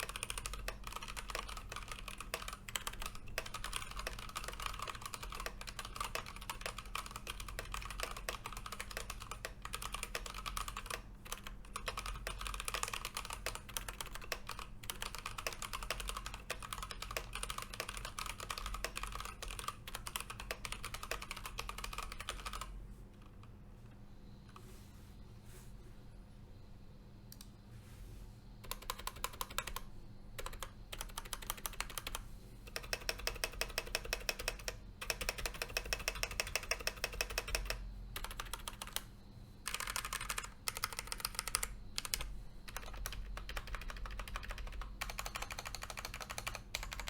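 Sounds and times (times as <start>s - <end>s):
mechanical keyboard typing: 0.0s - 22.7s, 28.6s - 47.0s
faint steady hum: 0.0s - 47.0s.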